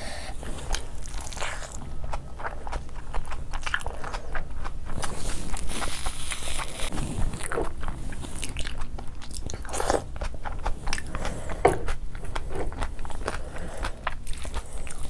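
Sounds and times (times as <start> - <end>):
chewing with wet mouth clicks: 0.5 - 15.0.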